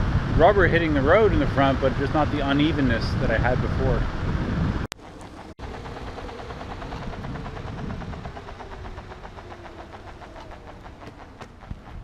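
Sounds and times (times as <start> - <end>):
electric skateboard rolling on pavement: 0.1 - 12.0.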